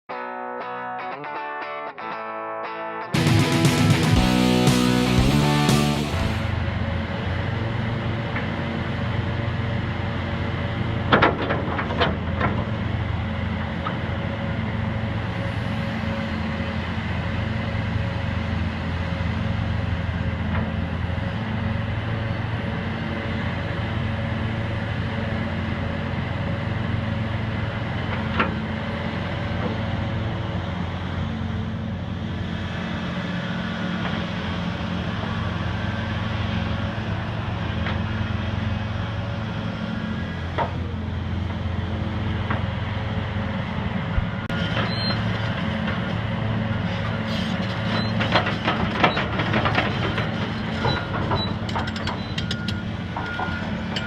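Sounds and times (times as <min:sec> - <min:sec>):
excavator diesel engine running: 0:03.2 - 0:54.0.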